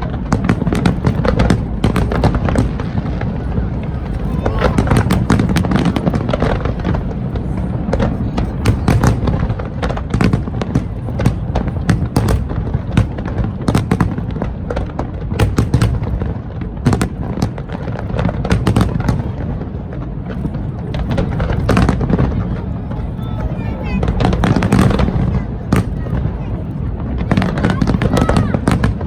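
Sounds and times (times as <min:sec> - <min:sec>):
fireworks cracks and bangs: 0:00.0 - 0:29.0
low rumble of bursts: 0:00.0 - 0:29.0.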